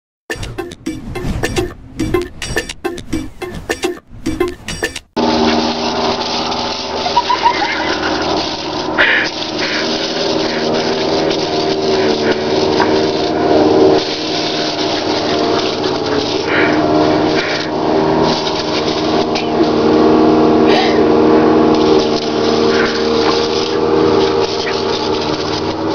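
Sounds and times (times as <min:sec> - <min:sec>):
hose spray hissing: 0:00.3 - 0:25.9.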